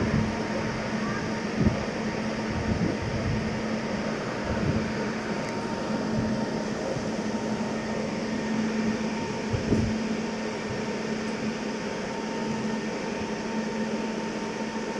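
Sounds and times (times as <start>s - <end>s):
train mechanical hum: 0.0s - 14.9s.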